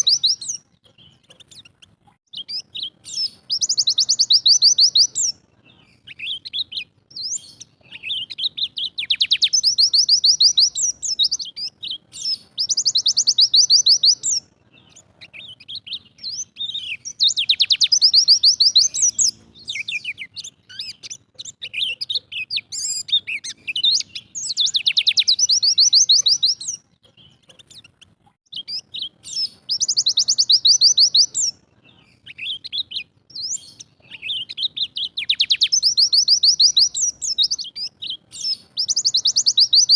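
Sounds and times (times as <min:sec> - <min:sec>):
bird singing fast high trills: 0:00.0 - 0:01.7, 0:02.3 - 0:27.9, 0:28.5 - 0:31.6, 0:32.2 - 0:39.9
bird chirps and twitters: 0:00.0 - 0:39.9.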